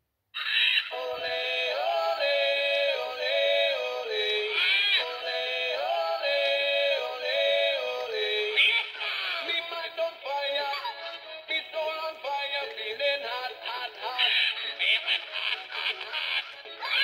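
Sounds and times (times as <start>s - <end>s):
synthetic voice singing: 0.8s - 17.0s.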